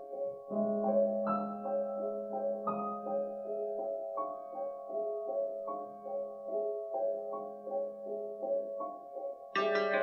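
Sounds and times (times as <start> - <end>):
grand piano playing slow notes: 0.0 - 10.0.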